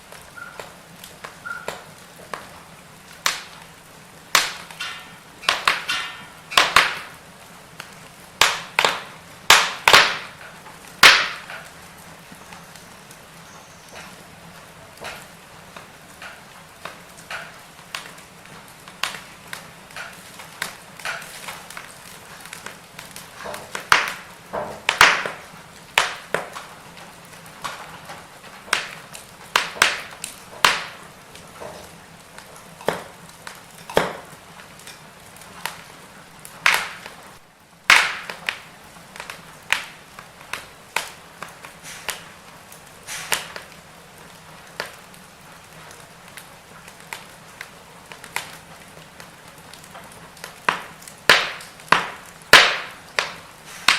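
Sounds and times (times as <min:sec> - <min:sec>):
firewood crackling and popping: 0:00.0 - 0:53.9
low steady fire hiss: 0:00.0 - 0:53.9.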